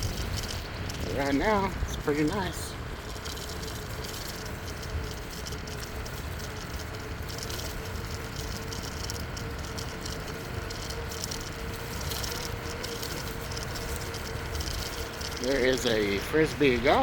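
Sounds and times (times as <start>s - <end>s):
bicycle tyres on trail: 0.0s - 17.0s
faint steady hum: 0.0s - 17.0s
light rattling: 0.0s - 17.0s.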